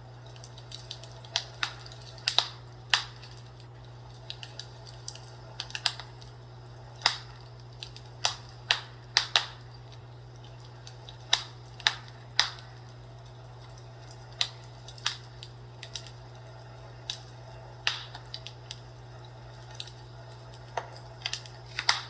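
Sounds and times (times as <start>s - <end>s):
fireplace crackling and popping: 0.0s - 22.0s
steady low hum: 0.0s - 22.0s.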